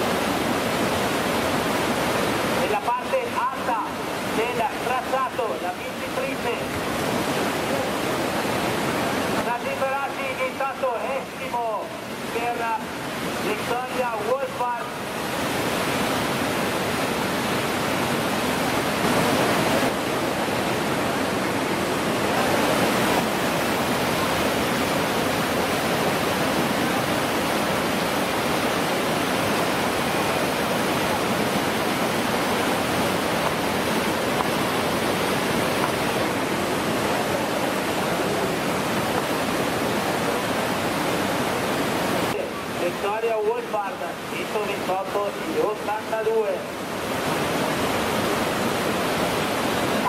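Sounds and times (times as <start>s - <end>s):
whitewater rapids rushing: 0.0s - 50.0s.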